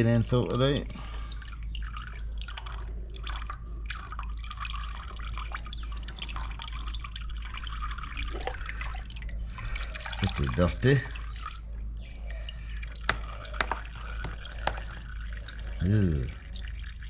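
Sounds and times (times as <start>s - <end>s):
oil dripping into a pan: 0.0s - 17.0s.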